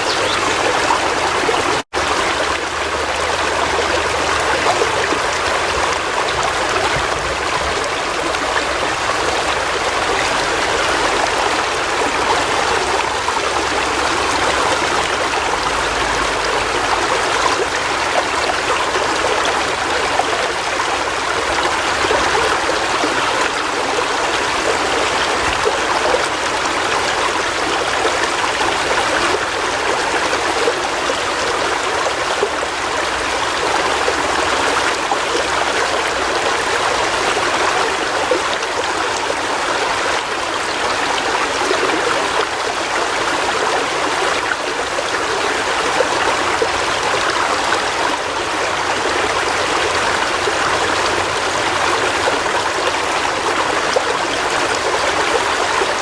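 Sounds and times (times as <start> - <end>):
river water over rocks: 0.0 - 56.0.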